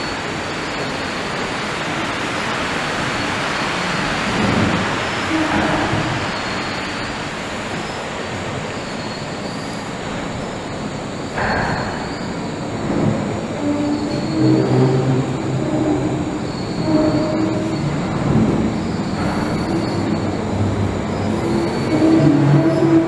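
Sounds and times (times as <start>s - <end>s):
railway car wheels rumbling: 0.0s - 23.0s
wheels whining and squealing: 0.0s - 23.0s.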